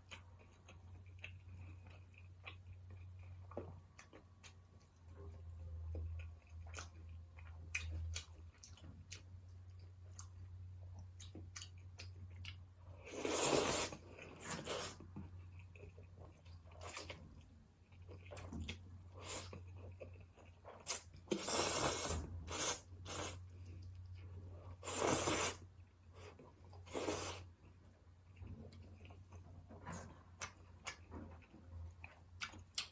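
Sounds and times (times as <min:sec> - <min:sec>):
crunching and slurping: 0:00.0 - 0:32.9
person chewing: 0:00.0 - 0:32.9.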